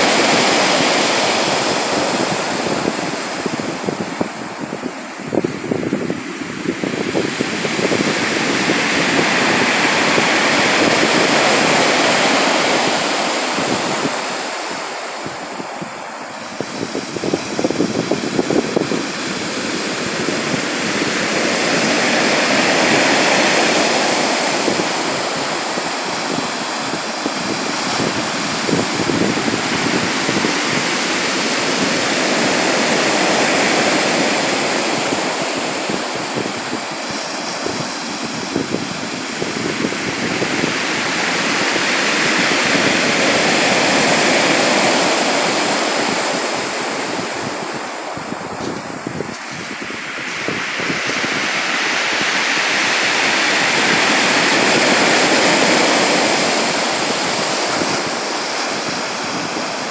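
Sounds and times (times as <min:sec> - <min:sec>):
waves breaking and washing ashore: 0:00.0 - 0:59.9.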